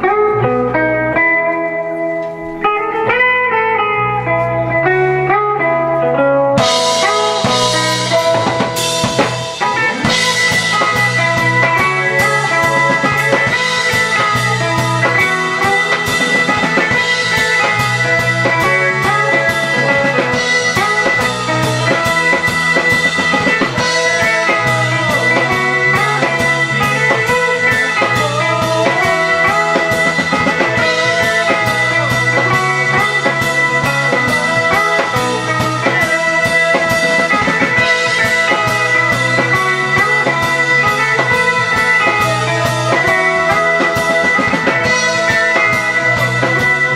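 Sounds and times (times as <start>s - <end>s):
electric guitar: 0.0s - 46.9s
rock band playing: 0.0s - 46.9s
drum kit with cymbals: 6.6s - 46.9s.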